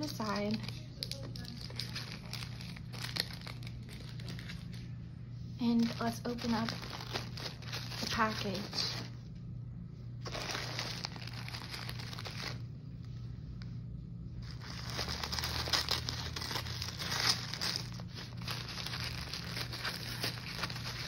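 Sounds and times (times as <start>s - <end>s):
packing tape tearing: 0.0s - 4.7s, 5.7s - 9.1s, 10.2s - 12.6s, 14.4s - 21.0s
tissue paper crinkling: 0.0s - 5.0s, 5.6s - 9.2s, 10.2s - 13.2s, 14.4s - 21.0s.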